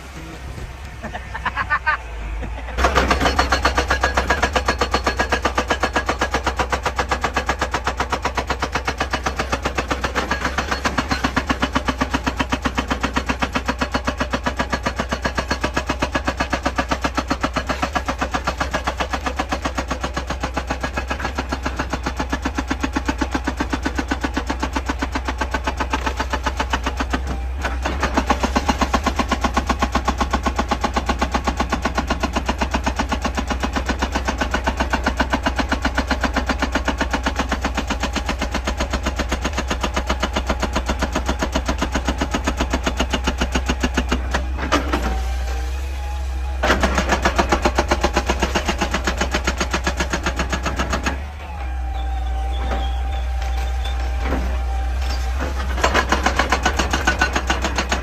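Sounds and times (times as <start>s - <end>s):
hydraulic breaker hammering rock: 0.0s - 58.0s
machine engine rumble: 0.0s - 58.0s.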